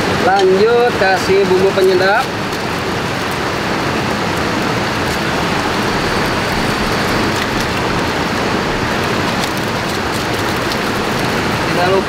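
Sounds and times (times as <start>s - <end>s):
river rushing over stones: 0.0s - 12.0s
wood fire crackling: 0.0s - 12.0s.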